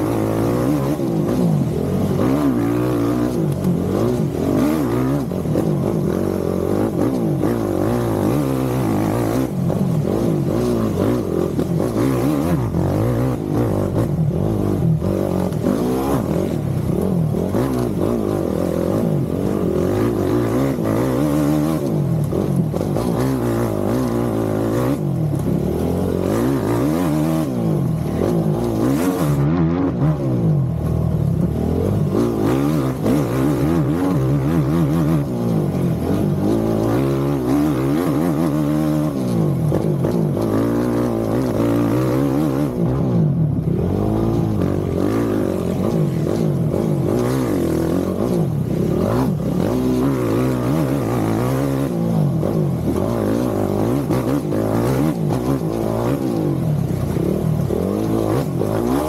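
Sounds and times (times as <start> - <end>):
engine revving up and down: 0.0 - 59.0.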